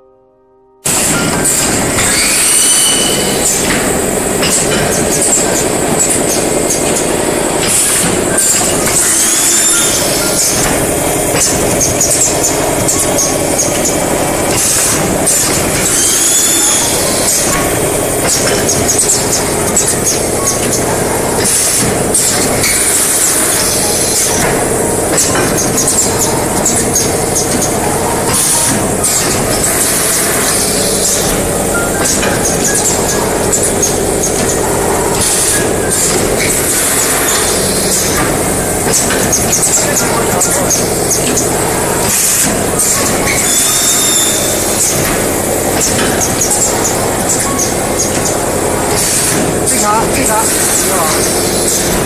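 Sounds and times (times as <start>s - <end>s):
high machine squeal: 0.8s - 52.0s
packing machine mechanical din: 0.8s - 52.0s
sharp pneumatic clacks: 0.8s - 52.0s.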